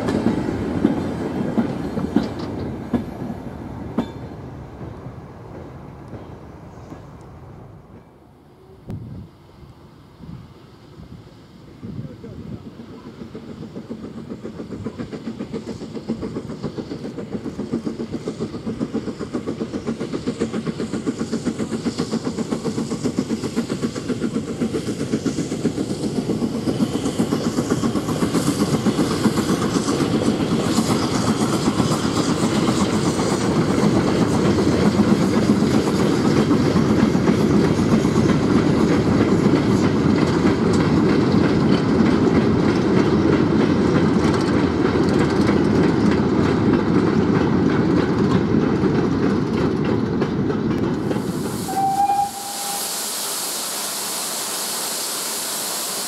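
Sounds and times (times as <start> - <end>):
steam locomotive exhaust beat: 0.0 - 56.0.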